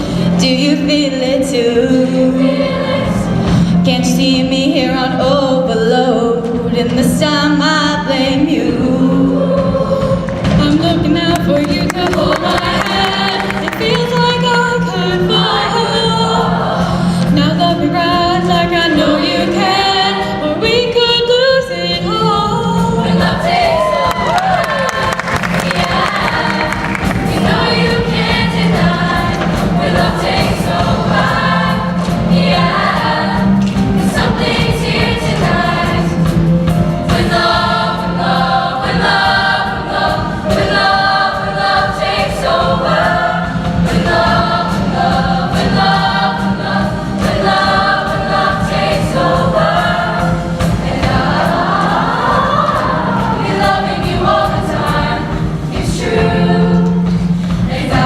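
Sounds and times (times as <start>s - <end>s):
choir singing in harmony: 0.0s - 58.0s
instrumental accompaniment with beat: 6.2s - 58.0s.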